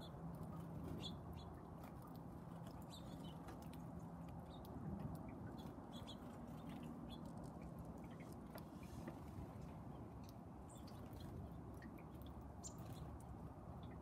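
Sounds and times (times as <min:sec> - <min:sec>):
low steady hum: 0:00.0 - 0:14.0
songbirds chirping: 0:00.0 - 0:14.0.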